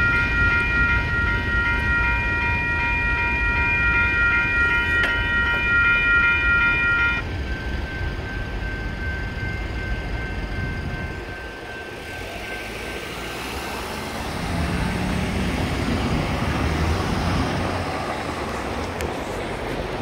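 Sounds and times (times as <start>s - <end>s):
railroad crossing bell ringing: 0.0s - 20.0s.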